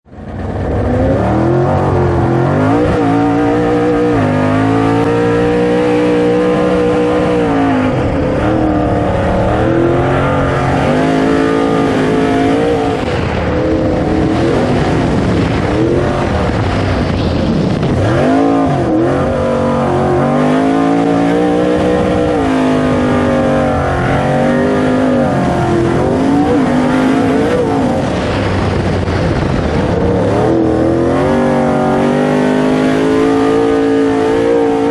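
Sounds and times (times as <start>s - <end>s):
truck engine revving: 0.1s - 34.9s.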